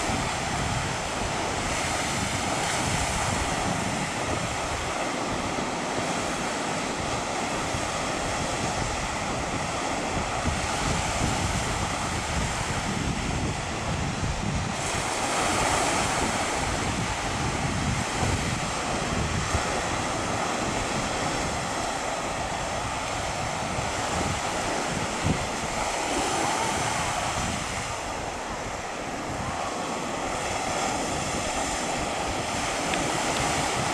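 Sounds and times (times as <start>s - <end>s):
sea surf washing: 0.0s - 33.9s
wind on microphone: 0.0s - 33.9s.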